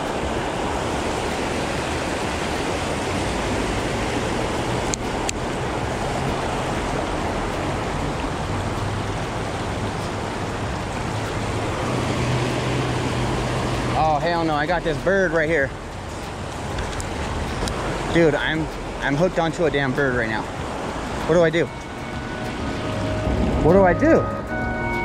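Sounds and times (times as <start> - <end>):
low hum of road traffic: 0.0 - 25.0
river water rushing: 0.0 - 25.0.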